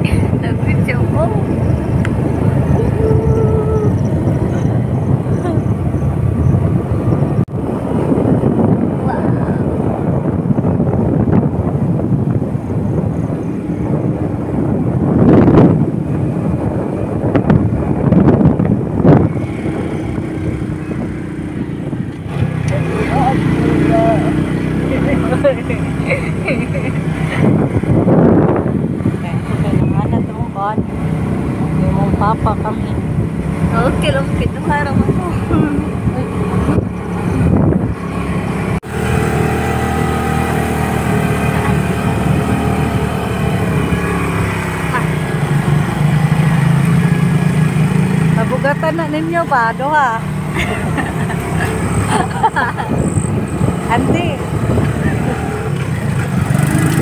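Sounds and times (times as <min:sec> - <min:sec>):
motorbike engine running: 0:00.0 - 0:57.0
wind buffeting microphone: 0:00.0 - 0:57.0.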